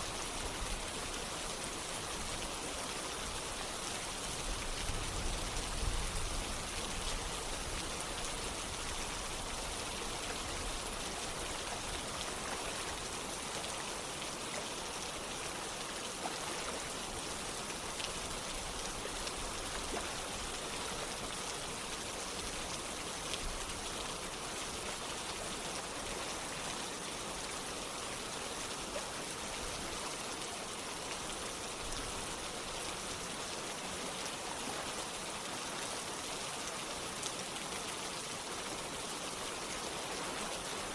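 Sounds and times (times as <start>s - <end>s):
running water: 0.0s - 40.9s
steady rain: 0.0s - 40.9s.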